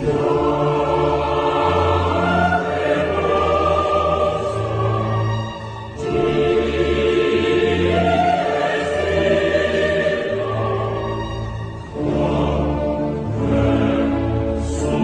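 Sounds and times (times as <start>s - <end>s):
choir singing: 0.0s - 15.0s
orchestral accompaniment: 0.0s - 15.0s.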